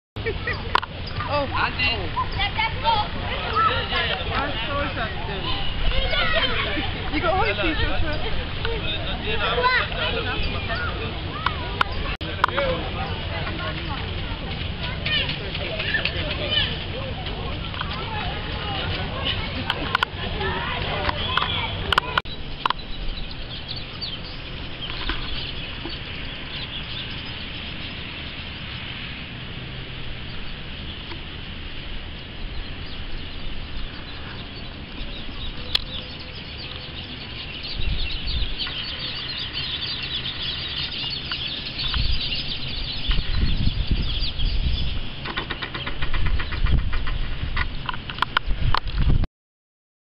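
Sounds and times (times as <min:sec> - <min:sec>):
rain pattering: 0:00.2 - 0:43.3.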